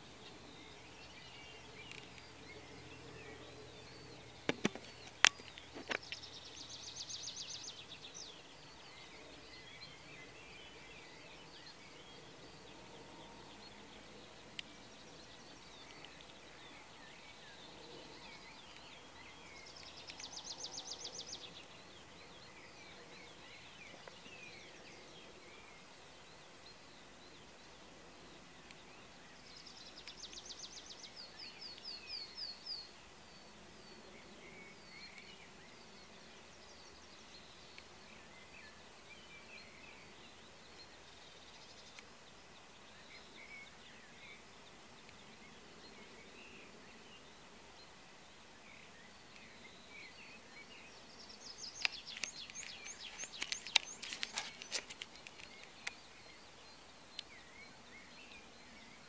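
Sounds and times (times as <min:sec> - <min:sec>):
songbirds chirping: 0:00.0 - 0:59.0
trilled bird songs: 0:00.0 - 0:59.0.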